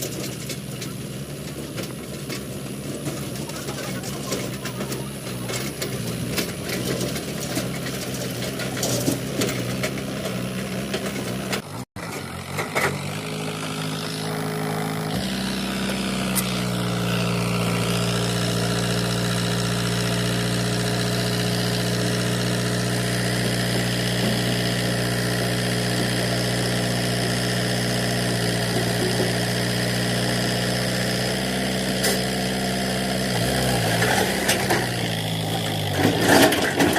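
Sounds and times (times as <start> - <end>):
backhoe diesel engine running: 0.0 - 36.9.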